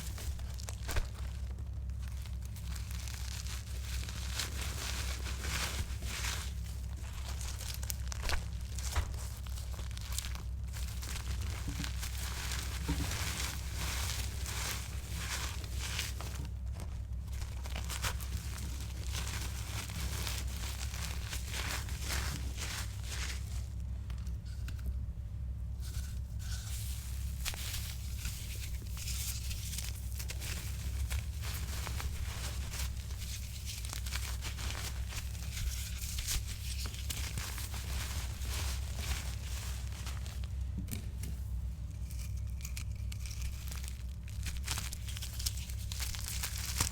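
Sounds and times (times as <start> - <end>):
chalk crunching and crumbling: 0.0 - 24.9, 25.8 - 40.5, 41.2 - 46.9.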